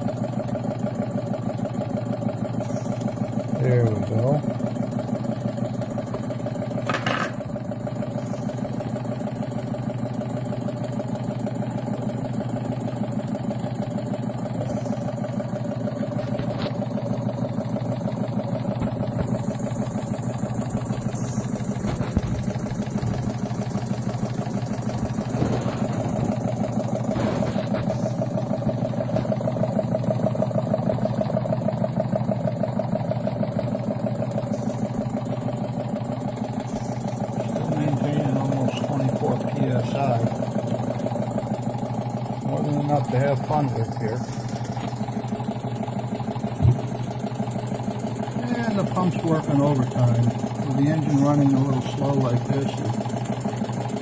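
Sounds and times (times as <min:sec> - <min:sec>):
steam engine running: 0:00.0 - 0:54.0.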